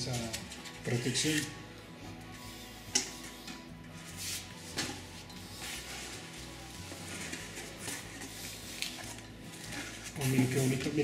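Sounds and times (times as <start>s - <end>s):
faint background music: 0.0s - 11.0s.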